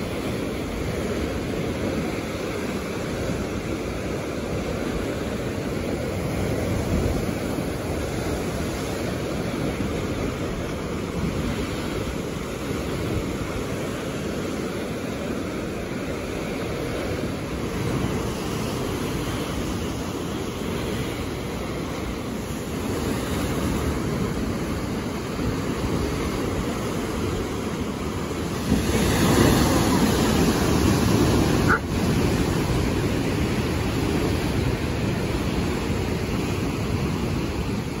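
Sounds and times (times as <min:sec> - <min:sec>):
sea surf breaking on rocks: 0:00.0 - 0:38.0.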